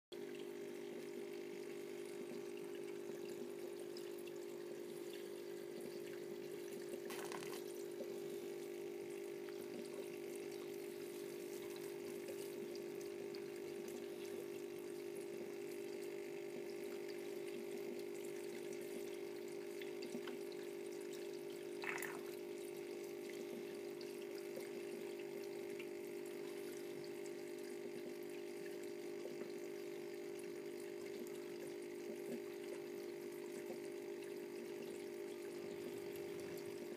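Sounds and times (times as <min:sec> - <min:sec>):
small water pump humming: 0:00.1 - 0:36.9
water moving through pump: 0:00.2 - 0:36.9.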